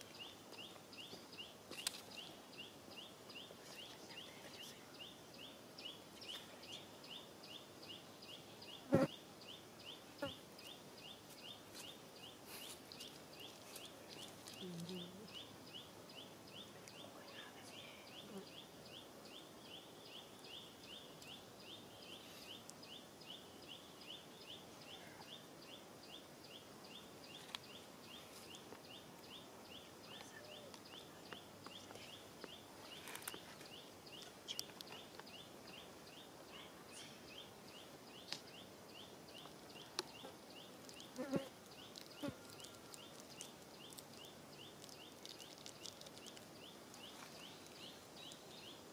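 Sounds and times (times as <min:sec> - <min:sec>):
insect chirping: 0:00.0 - 0:48.9.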